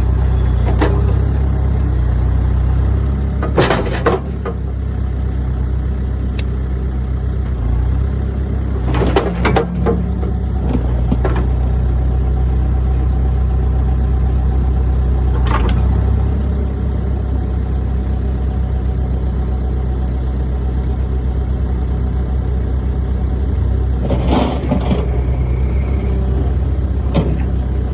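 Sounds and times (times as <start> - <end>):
diesel engine idling: 0.0 - 8.9, 10.0 - 24.3, 25.1 - 27.9.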